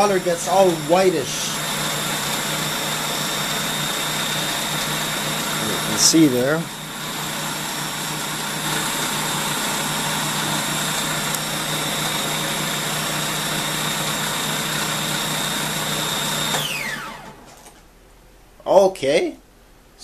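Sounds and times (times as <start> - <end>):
food processor motor whining: 0.0 - 17.6.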